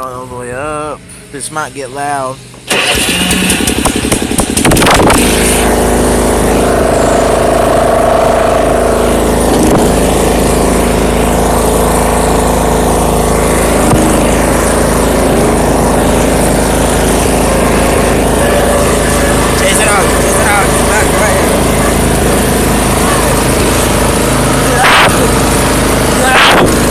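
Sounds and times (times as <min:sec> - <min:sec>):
lawn mower engine starting: 0:02.4 - 0:26.9.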